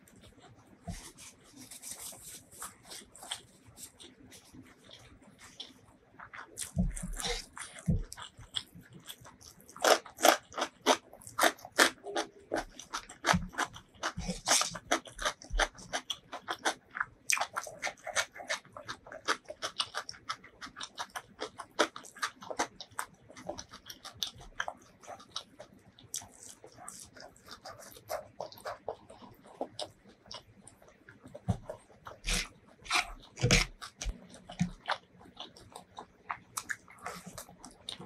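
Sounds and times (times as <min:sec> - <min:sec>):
wet chewing and lip smacking: 0:00.0 - 0:38.0.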